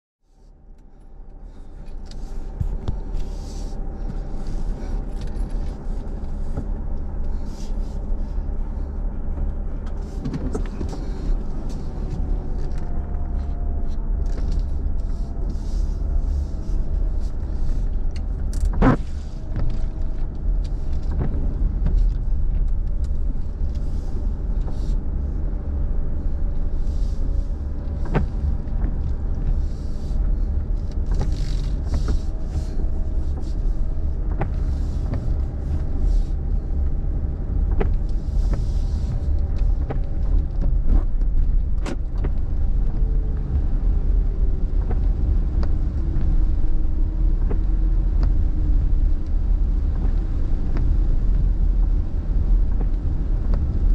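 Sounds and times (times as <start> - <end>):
car engine and road rumble: 0.2 - 53.9
windshield wiper click: 9.3 - 51.9, 52.7 - 53.9.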